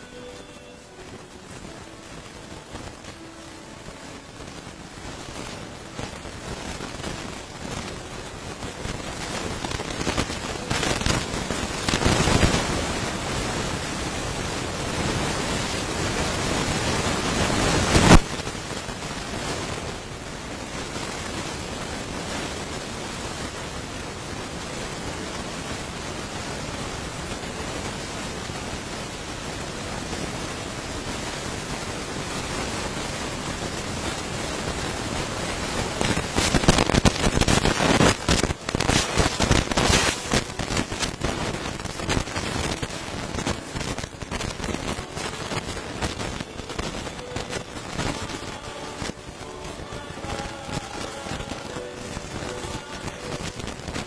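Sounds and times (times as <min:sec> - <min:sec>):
loud irregular crackling: 0:00.0 - 0:23.6, 0:25.2 - 0:54.0
static hiss: 0:00.0 - 0:54.0.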